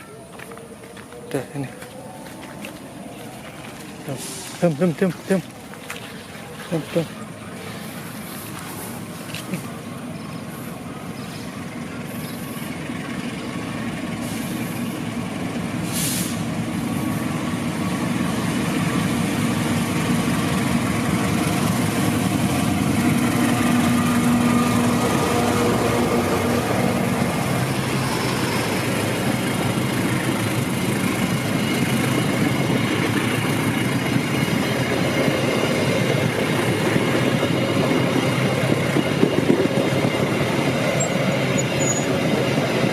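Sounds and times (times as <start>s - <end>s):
train passing: 0.0s - 42.9s
train wheels rumbling on rails: 0.0s - 42.9s.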